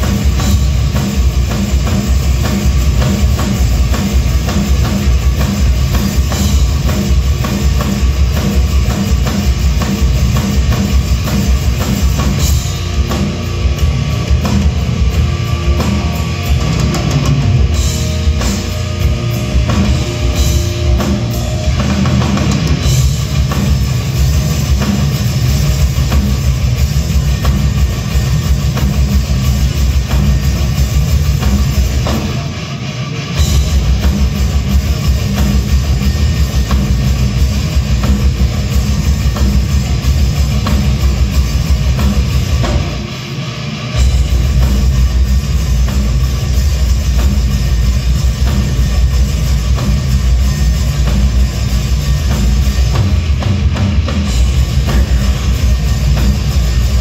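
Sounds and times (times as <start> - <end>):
distorted electric guitars: 0.0 - 57.0
live hard rock band: 0.0 - 57.0
pounding drum kit: 0.0 - 57.0.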